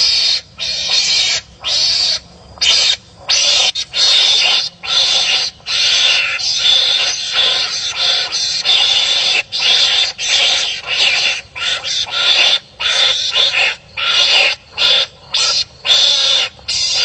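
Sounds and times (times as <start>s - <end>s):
animals giving harsh rasping calls: 0.0s - 17.0s.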